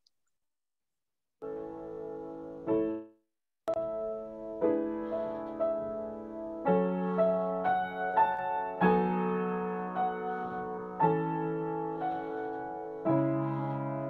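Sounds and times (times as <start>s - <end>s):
slow solo piano chords: 1.4s - 3.1s, 3.7s - 14.0s.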